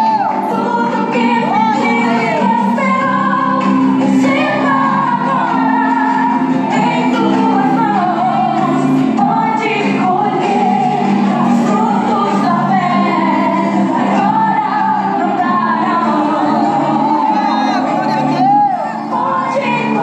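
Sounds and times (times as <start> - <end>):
voices singing gospel: 0.0 - 20.0.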